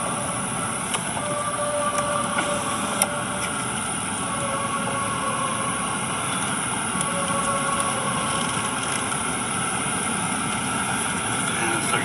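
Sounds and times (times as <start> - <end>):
car road noise: 0.0 - 12.0
faint humming tones: 0.0 - 12.0.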